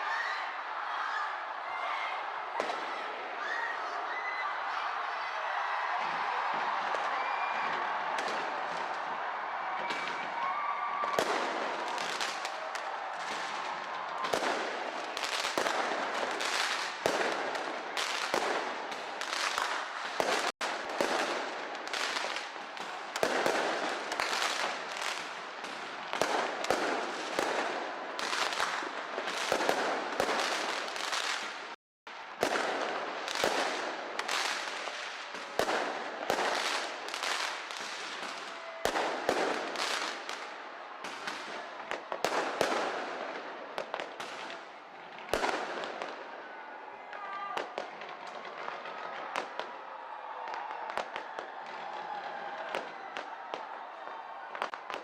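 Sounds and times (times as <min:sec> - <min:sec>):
fireworks bangs and crackling: 0:02.3 - 0:03.4, 0:04.5 - 0:55.0.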